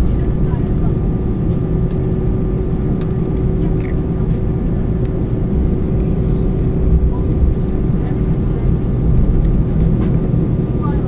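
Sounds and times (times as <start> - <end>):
jet engines rumbling: 0.0 - 11.0
steady cabin hum: 0.0 - 11.0.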